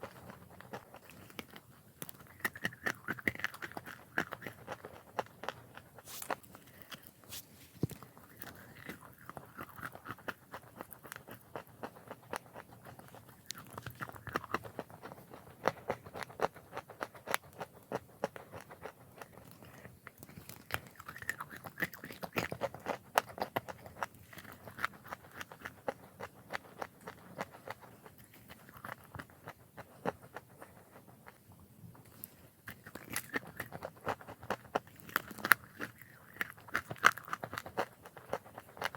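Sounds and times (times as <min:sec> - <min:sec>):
chewing chalk crunches: 0:00.0 - 0:38.9.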